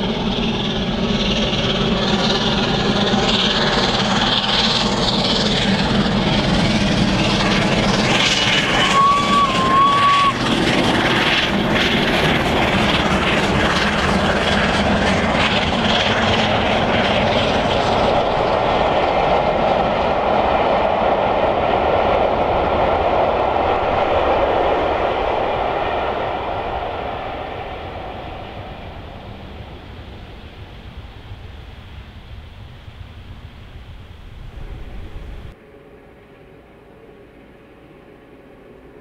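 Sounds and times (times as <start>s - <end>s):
train coaches running on rails: 0.0s - 35.6s
steam locomotive exhaust beating: 0.0s - 39.0s.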